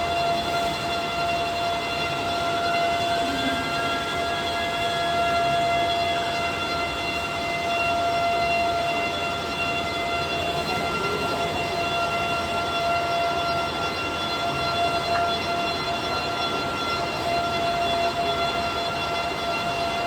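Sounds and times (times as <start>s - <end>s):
machine high whine: 0.0s - 20.0s.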